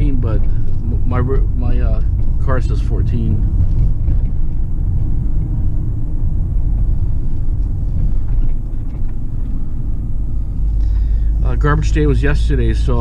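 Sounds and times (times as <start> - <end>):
road and engine rumble in vehicle: 0.0 - 13.0.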